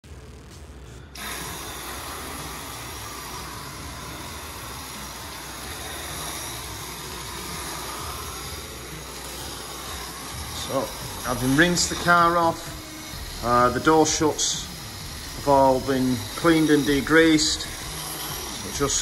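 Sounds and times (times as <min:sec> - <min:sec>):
pressure washer spray hissing: 0:01.2 - 0:19.0
pump humming: 0:01.2 - 0:19.0.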